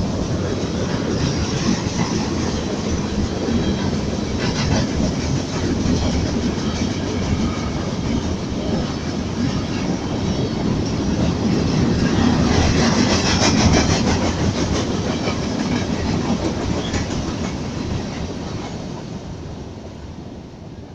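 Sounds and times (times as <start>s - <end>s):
train wheels clattering over rails: 0.0s - 19.2s.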